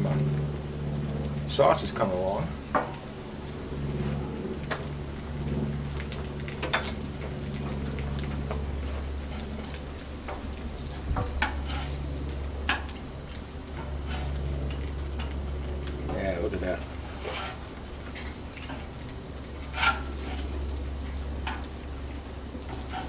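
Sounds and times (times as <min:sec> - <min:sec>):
chicken frying on griddle: 0:00.0 - 0:23.0
low steady hum: 0:00.0 - 0:23.0.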